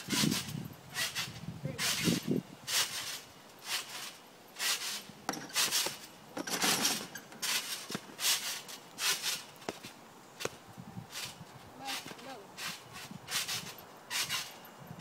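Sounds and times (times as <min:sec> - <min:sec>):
trampoline springs creaking: 0:00.0 - 0:15.0.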